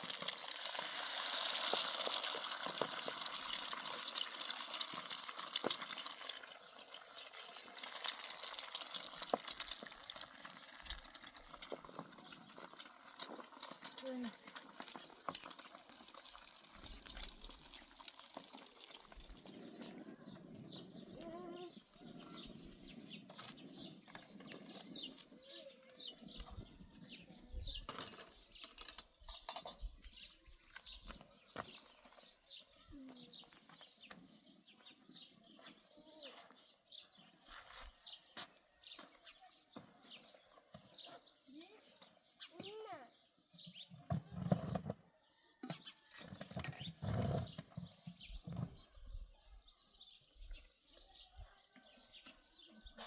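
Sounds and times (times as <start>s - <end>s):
small birds chirping: 0.0s - 44.8s, 45.5s - 53.0s.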